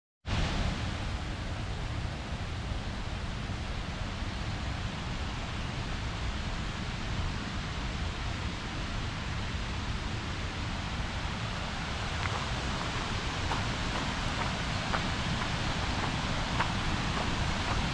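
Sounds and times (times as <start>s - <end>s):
river and waterfall rushing: 0.3s - 17.9s.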